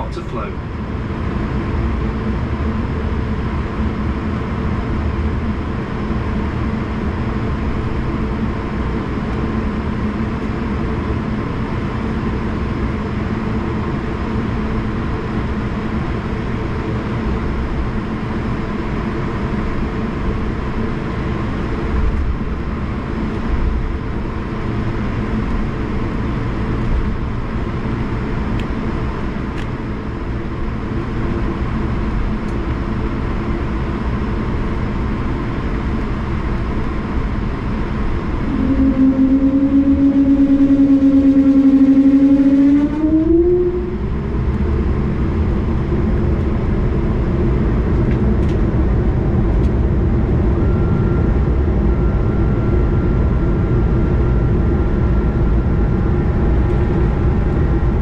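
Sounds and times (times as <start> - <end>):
jet engines humming: 0.0 - 58.0.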